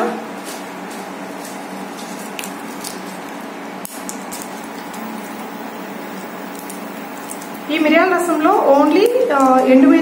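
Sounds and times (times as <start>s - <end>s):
steady background hum: 0.0s - 10.0s
small crackles: 0.5s - 9.7s
seeds sizzling in hot oil: 1.0s - 9.3s.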